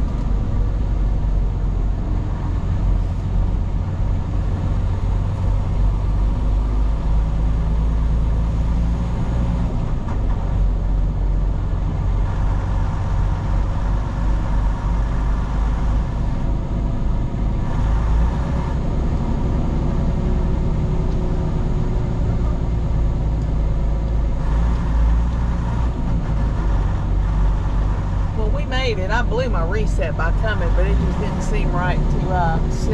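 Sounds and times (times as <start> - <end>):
road noise: 0.0 - 32.9
truck engine drone: 0.0 - 32.9.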